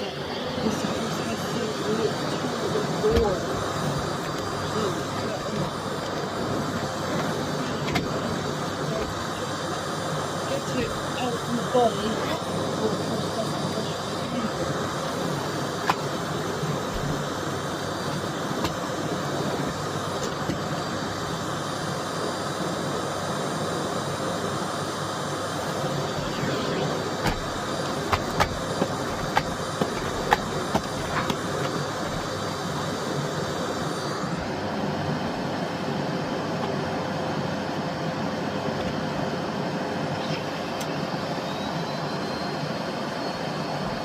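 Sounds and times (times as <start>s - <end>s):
vacuum cleaner running: 0.0s - 44.0s.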